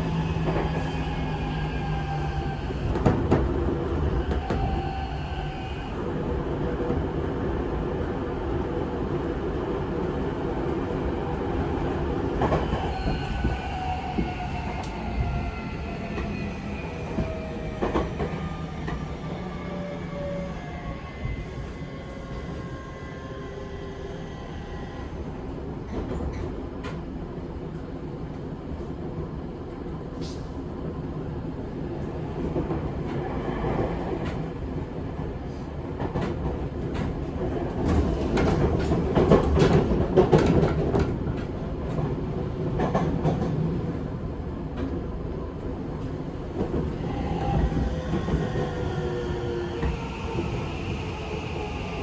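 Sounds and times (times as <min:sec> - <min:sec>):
train wheel and motor noise: 0:00.0 - 0:29.2, 0:31.8 - 0:52.0.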